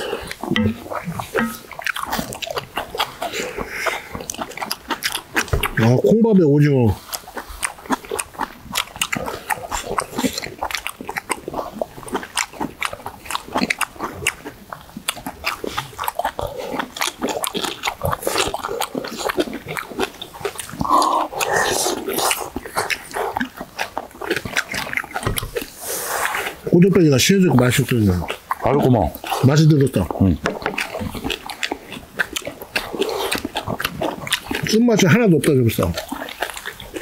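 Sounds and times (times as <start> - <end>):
people chewing: 0.0 - 37.0.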